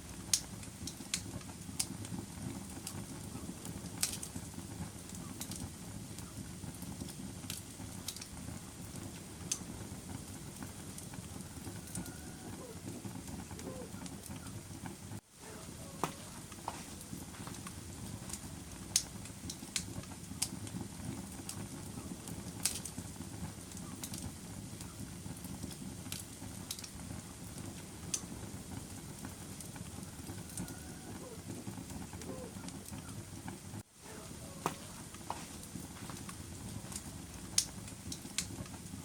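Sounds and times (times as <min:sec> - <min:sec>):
burning wood crackling and popping: 0:00.0 - 0:39.0
fire flames rumbling: 0:00.0 - 0:39.0.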